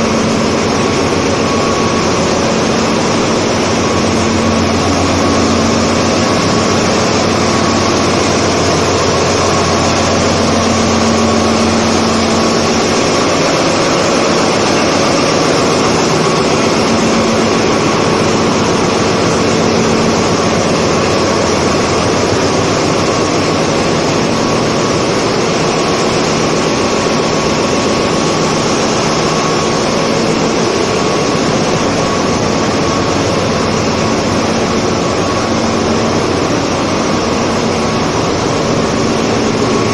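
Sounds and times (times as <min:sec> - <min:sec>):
constant hum: 0:00.0 - 0:39.9
engine room machinery din: 0:00.0 - 0:39.9.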